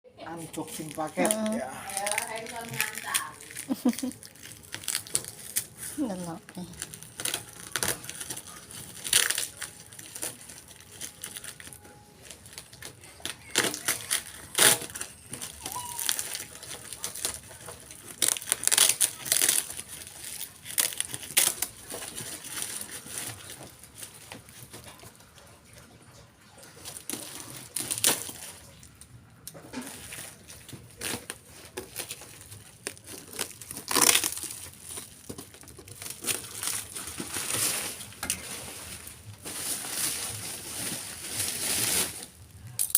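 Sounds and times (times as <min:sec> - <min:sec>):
plastic wrapping crinkling and tearing: 0:00.2 - 0:42.9.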